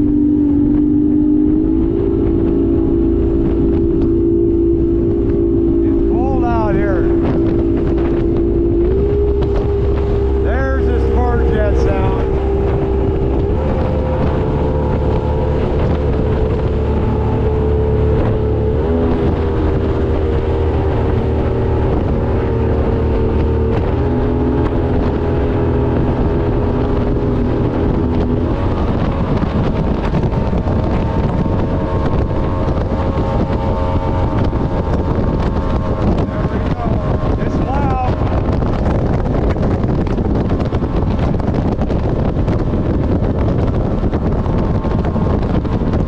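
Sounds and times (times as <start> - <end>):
boat engine running: 0.0 - 46.0
wind on microphone: 0.0 - 46.0.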